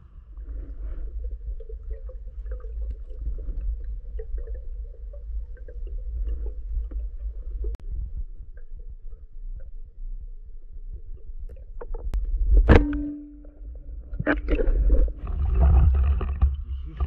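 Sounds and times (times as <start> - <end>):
underwater rumble of moving water: 0.0 - 17.0
faint crackles and clicks: 0.4 - 17.0.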